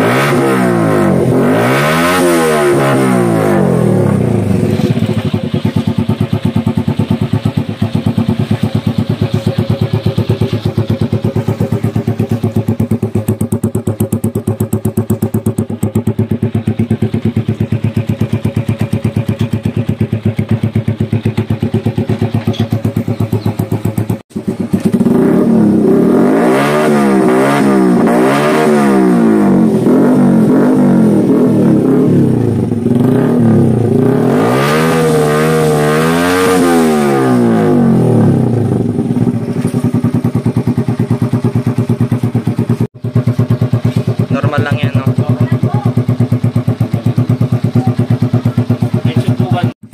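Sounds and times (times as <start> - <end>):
motorcycle engine idling and revving: 0.0 - 49.9.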